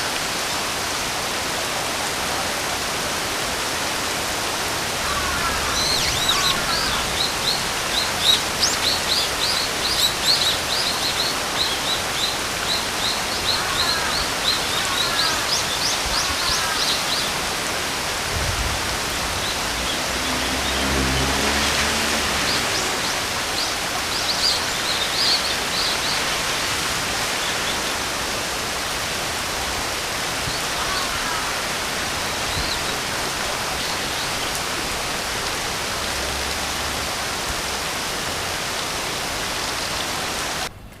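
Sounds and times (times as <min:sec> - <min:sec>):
rain hiss: 0:00.0 - 0:40.7.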